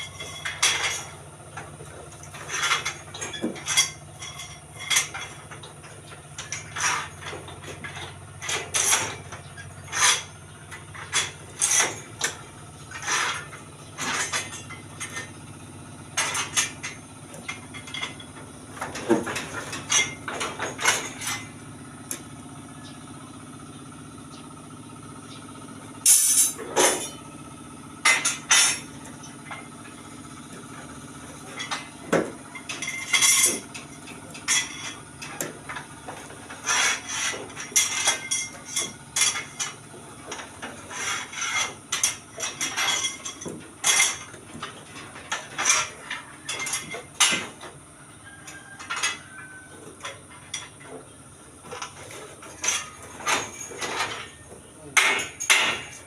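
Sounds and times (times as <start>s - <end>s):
steel rebar clanking: 0.0s - 22.4s, 26.0s - 56.0s.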